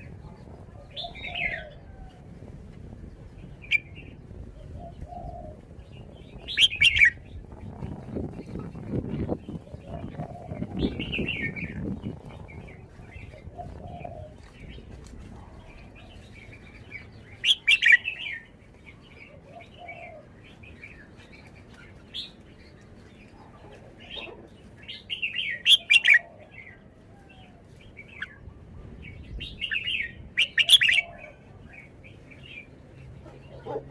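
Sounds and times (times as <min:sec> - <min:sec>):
bird singing loud song phrases: 0:03.1 - 0:14.9, 0:15.5 - 0:33.9.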